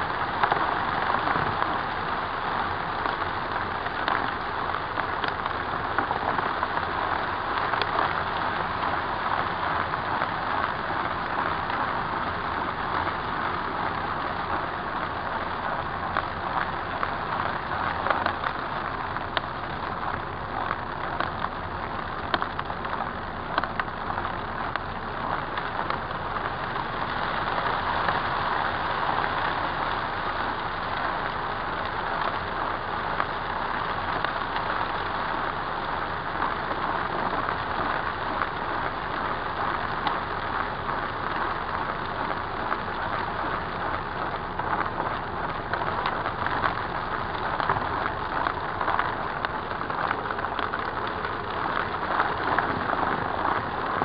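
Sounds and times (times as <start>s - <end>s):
debris crackling in vacuum: 0.2s - 54.0s.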